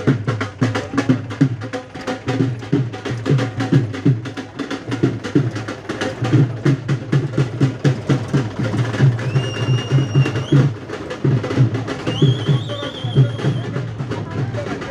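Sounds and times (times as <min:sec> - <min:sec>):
drums beaten fast: 0:00.0 - 0:14.9.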